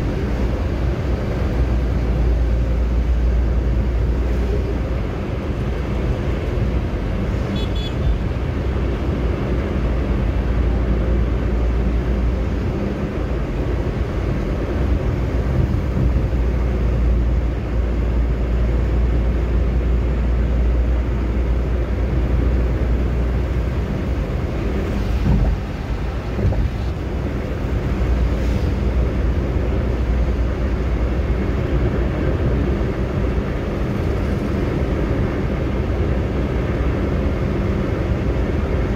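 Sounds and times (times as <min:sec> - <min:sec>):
car interior road noise: 0:00.0 - 0:38.9.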